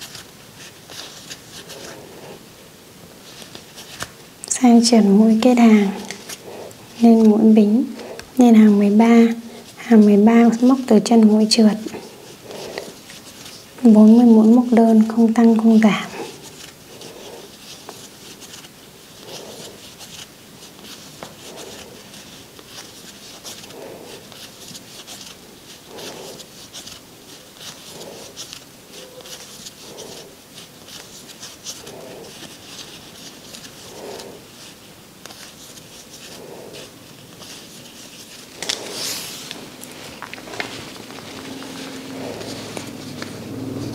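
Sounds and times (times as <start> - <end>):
crochet hook scratching yarn: 0.0 - 2.5, 3.2 - 43.9.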